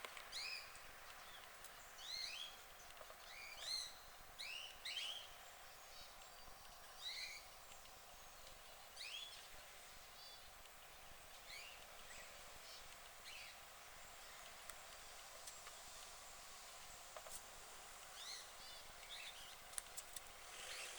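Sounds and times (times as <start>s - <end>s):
birds chirping: 0.0s - 20.9s
faint steady hiss: 0.0s - 20.9s.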